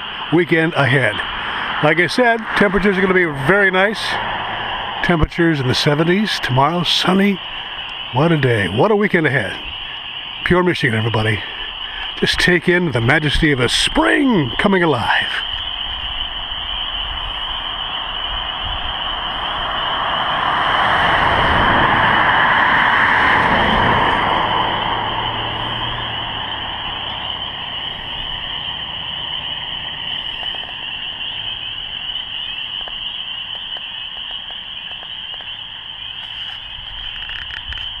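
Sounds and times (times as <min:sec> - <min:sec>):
vehicle passing: 0:00.0 - 0:12.2, 0:15.4 - 0:34.2
frog chorus: 0:00.0 - 0:38.0.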